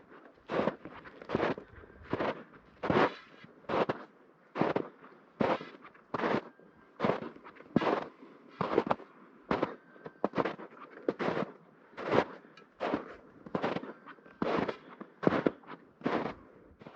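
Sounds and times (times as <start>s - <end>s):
footsteps crunching in snow: 0.4s - 16.9s.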